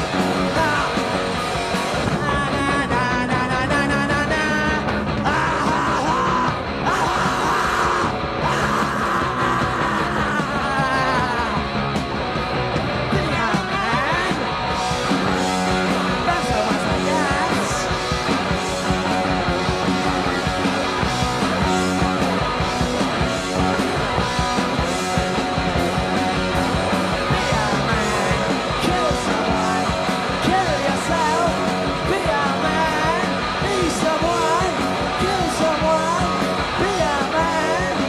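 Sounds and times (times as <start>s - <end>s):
punk rock band: 0.0s - 38.0s.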